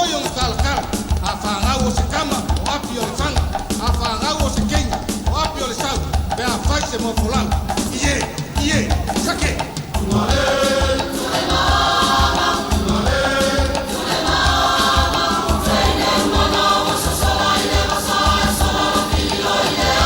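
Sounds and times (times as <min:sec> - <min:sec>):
group singing in chorus: 0:00.0 - 0:20.0
steady low drum beat: 0:00.0 - 0:20.0.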